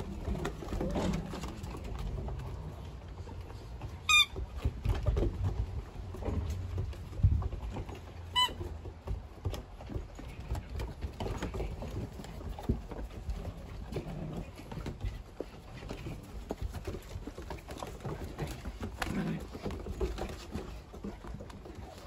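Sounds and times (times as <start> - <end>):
puppy claws tapping on wooden deck: 0.0 - 22.0.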